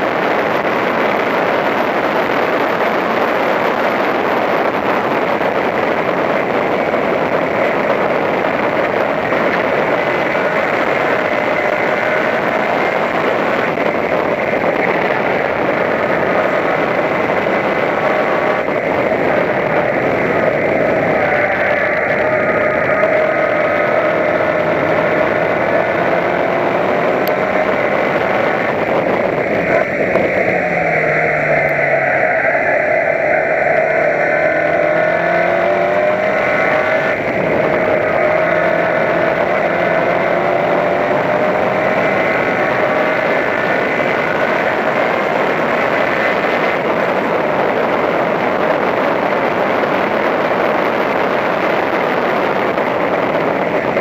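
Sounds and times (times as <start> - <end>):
race car engine at high revs: 0.0 - 54.0
wind and road noise: 0.0 - 54.0.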